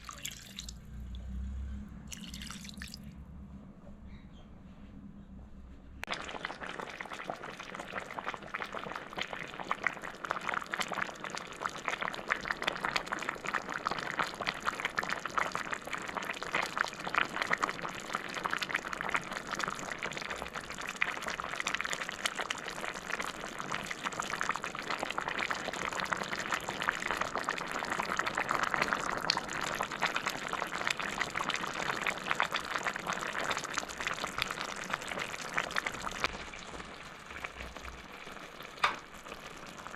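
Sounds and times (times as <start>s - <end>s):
food sizzling and bubbling in a pot: 6.0s - 39.9s.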